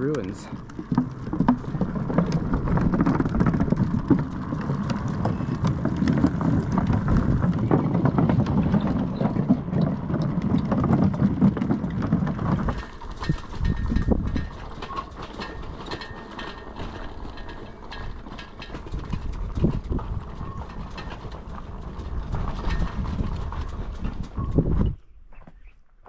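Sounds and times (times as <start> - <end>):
bicycle rolling over wooden boardwalk: 0.0 - 26.0.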